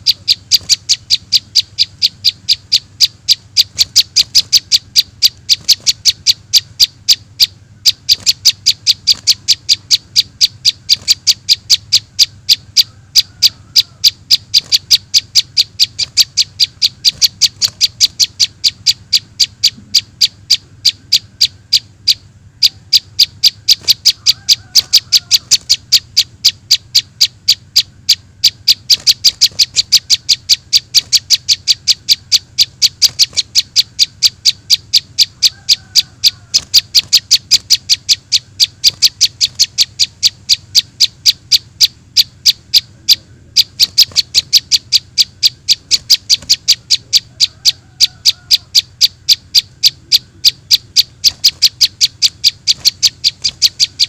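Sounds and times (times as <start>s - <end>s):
bird chipping calls: 0.0s - 54.0s.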